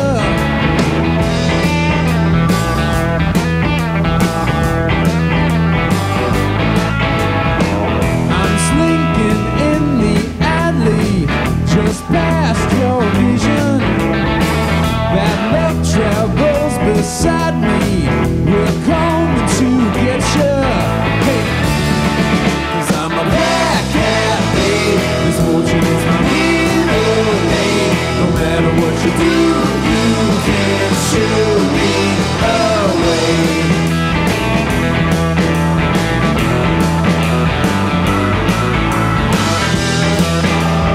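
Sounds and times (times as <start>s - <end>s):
blues-rock band playing: 0.0s - 40.9s.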